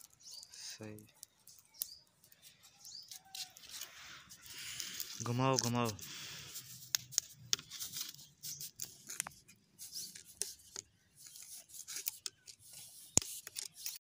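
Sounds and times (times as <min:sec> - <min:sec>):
plastic pipe scraping and clicking: 0:00.0 - 0:06.0, 0:06.6 - 0:14.0.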